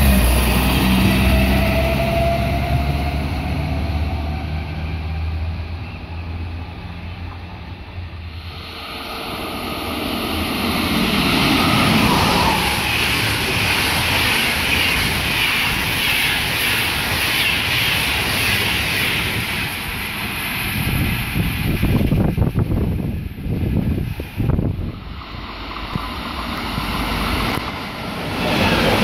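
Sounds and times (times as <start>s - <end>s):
train wheels rushing on rails: 0.0s - 29.0s.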